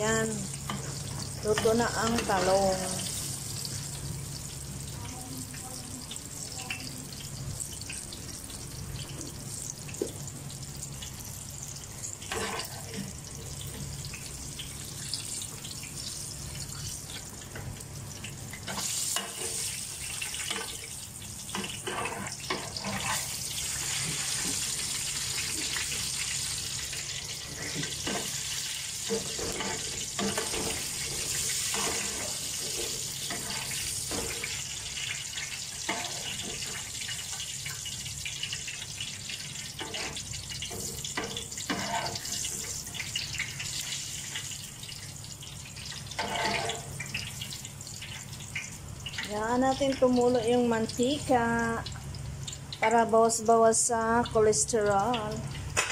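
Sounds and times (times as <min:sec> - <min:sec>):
oil sizzling while deep-frying: 0:00.0 - 0:55.9.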